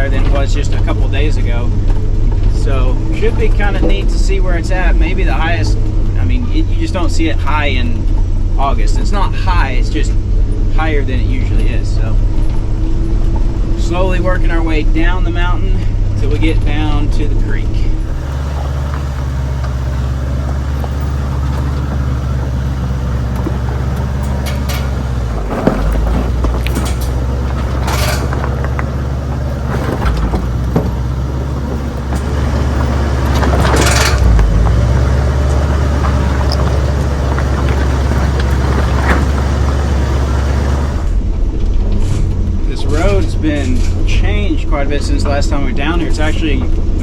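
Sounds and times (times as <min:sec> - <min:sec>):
truck knocks and rattles: 0:00.0 - 0:09.3, 0:16.3 - 0:45.5
truck engine running low: 0:00.0 - 0:47.0.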